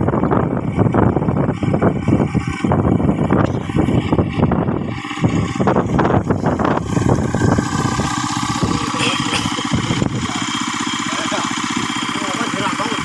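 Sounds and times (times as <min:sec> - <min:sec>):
small engine running: 0:00.0 - 0:13.0
engine knock: 0:00.1 - 0:13.0.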